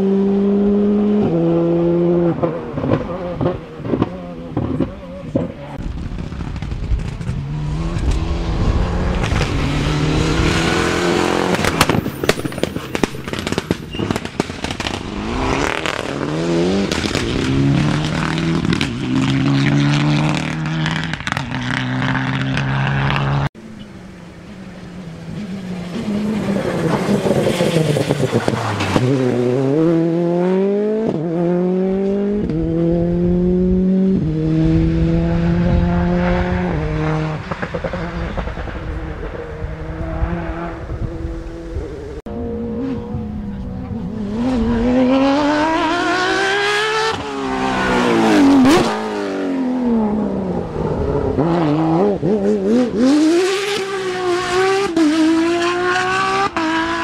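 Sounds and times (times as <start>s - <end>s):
car engine upshifting: 0.4s - 57.0s
rally car engine crackling: 2.2s - 57.0s.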